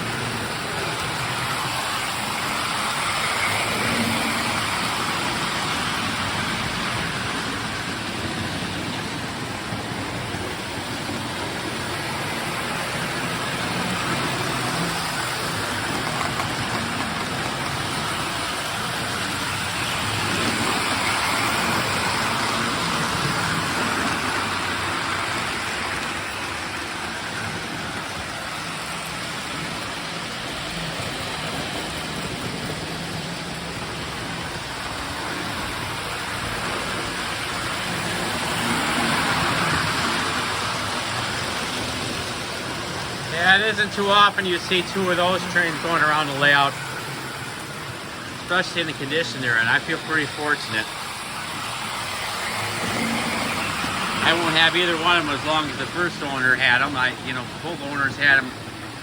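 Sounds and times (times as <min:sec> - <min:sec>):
locomotive motors whirring: 0:00.0 - 0:59.0
toy train wheels rumbling on rails: 0:00.0 - 0:59.0.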